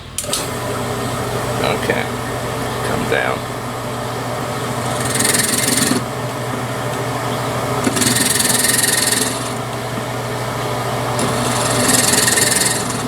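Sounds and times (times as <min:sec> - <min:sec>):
drill press motor hum: 0:00.0 - 0:13.0
drill bit grinding hiss: 0:00.2 - 0:13.0.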